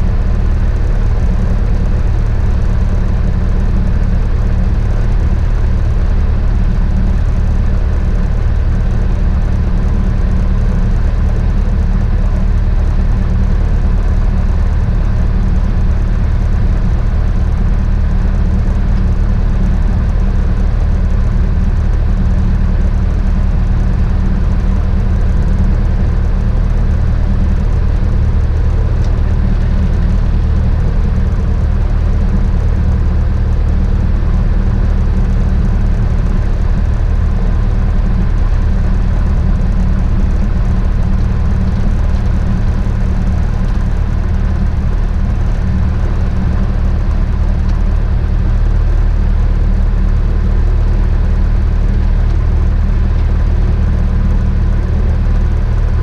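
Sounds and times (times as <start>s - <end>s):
propeller plane engine from cabin: 0.0s - 56.0s.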